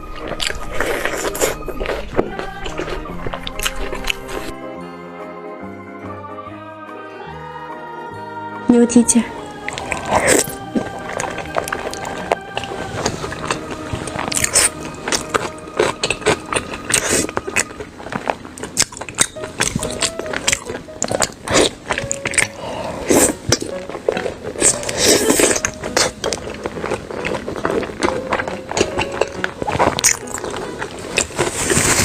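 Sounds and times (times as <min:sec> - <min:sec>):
biting and chewing: 0:00.0 - 0:04.6, 0:09.5 - 0:32.0
faint background music: 0:00.0 - 0:32.0.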